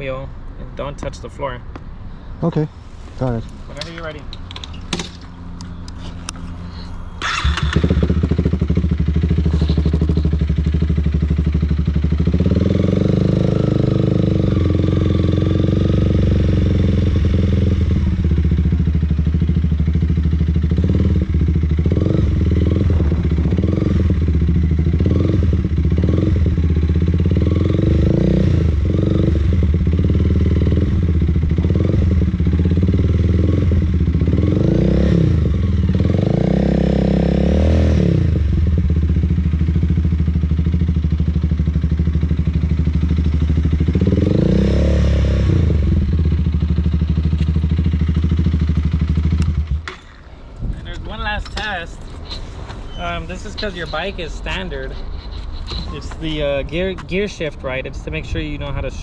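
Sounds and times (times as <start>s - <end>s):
motorcycle engine running: 6.6s - 57.4s.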